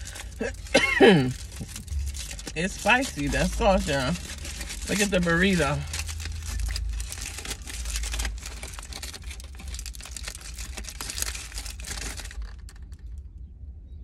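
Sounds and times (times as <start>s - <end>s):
foil wrapper crinkling: 0.0s - 13.3s.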